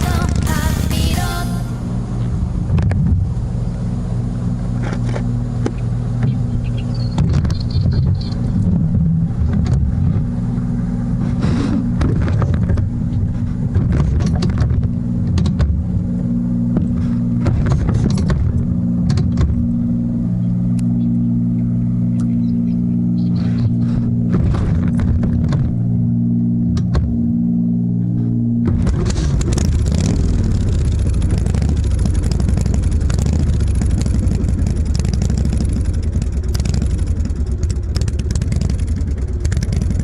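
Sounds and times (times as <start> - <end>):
motorcycle engine throbbing: 0.0 - 40.0.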